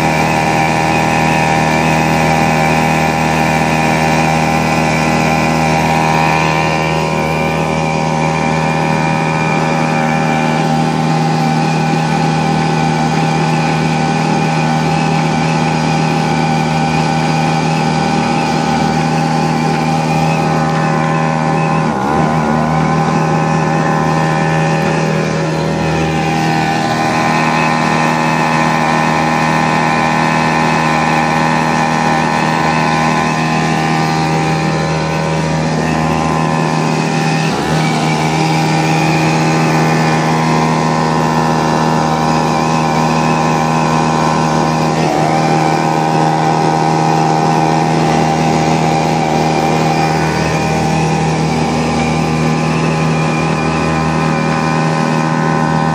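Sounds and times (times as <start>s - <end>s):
outboard motor running: 0.0s - 55.9s.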